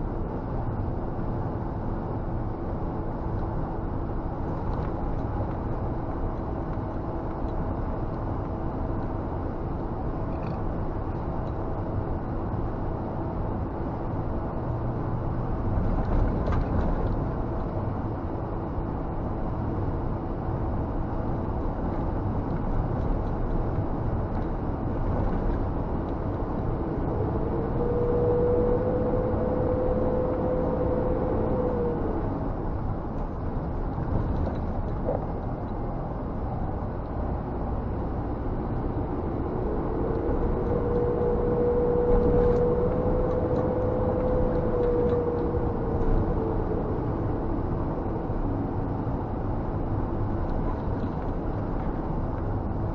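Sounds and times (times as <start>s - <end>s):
steady whine: 0.0s - 52.9s
truck engine and road rumble: 0.0s - 52.9s.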